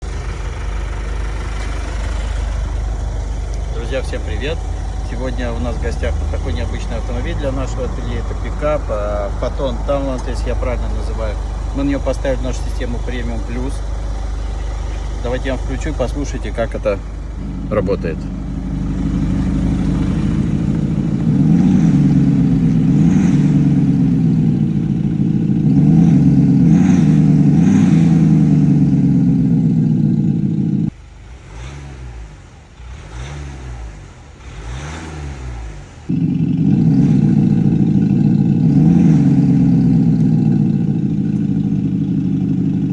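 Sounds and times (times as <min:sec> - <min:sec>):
pickup engine revving quietly: 0:00.0 - 0:42.9.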